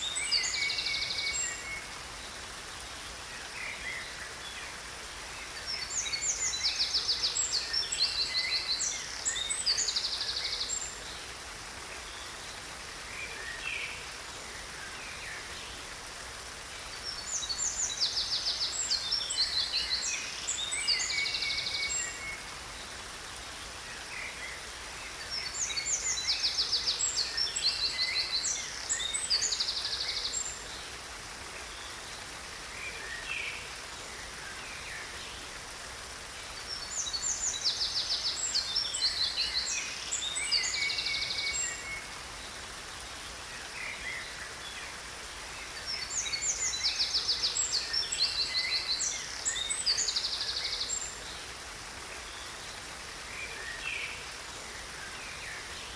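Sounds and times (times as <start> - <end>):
waterfall hiss: 0.0 - 55.9.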